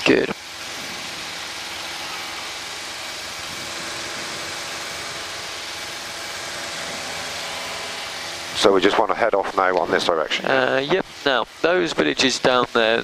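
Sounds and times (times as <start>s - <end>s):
propeller plane engine in cabin: 0.0s - 13.0s.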